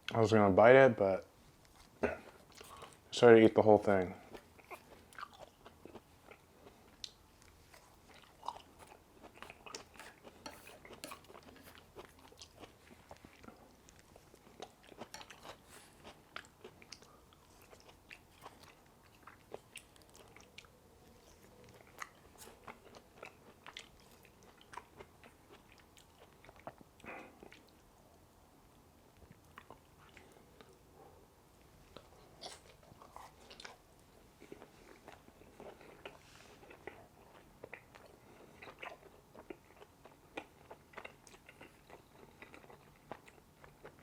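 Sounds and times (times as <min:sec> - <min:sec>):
person chewing food: 0:01.6 - 0:03.1, 0:04.2 - 0:28.1, 0:29.1 - 0:30.9, 0:31.8 - 0:44.0.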